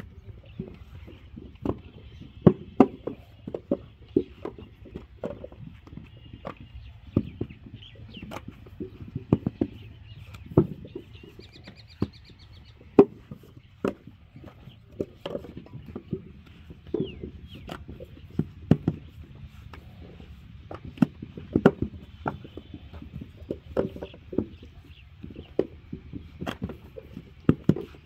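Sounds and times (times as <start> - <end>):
dull thuds of brick making: 0.0 - 28.0.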